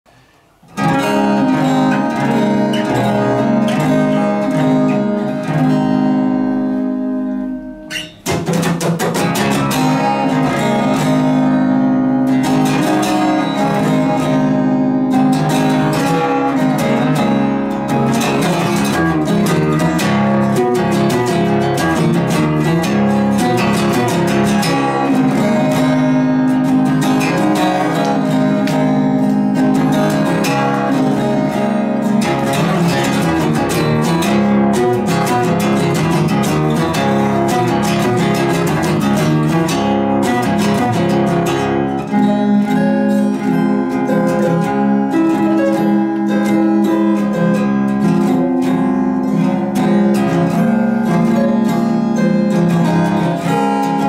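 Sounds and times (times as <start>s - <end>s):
fingerstyle acoustic guitar: 0.1s - 54.0s.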